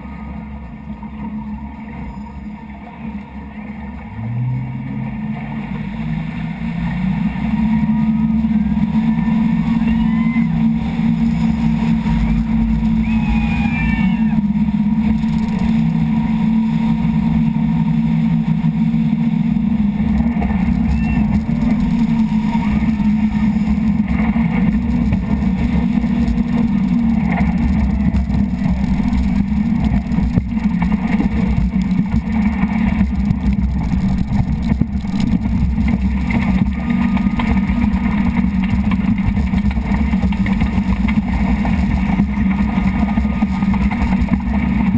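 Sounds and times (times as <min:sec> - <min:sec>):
speedboat engine drone: 0:00.0 - 0:44.9
water rushing against hull: 0:00.0 - 0:44.9.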